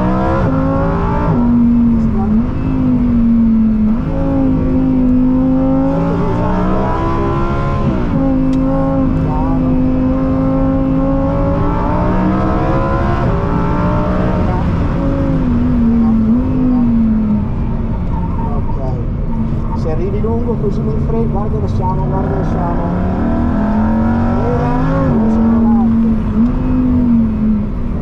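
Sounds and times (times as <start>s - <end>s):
sports car engine revving: 0.0s - 28.0s.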